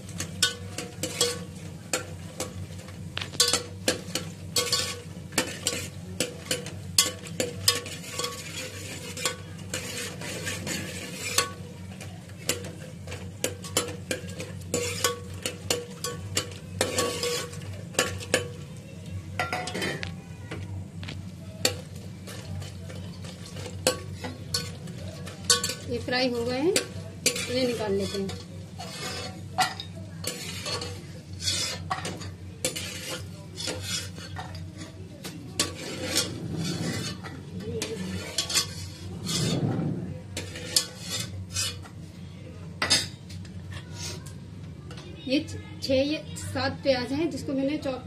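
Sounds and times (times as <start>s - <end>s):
metal spoon scraping a pot: 0.0s - 18.7s, 21.6s - 42.0s
nuts sizzling in oil: 0.0s - 20.1s, 20.8s - 39.6s, 40.3s - 42.3s.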